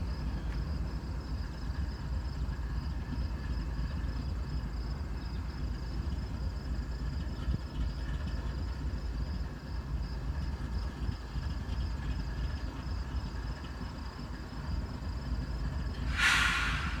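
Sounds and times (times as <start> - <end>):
train idling rumble: 0.0 - 17.0.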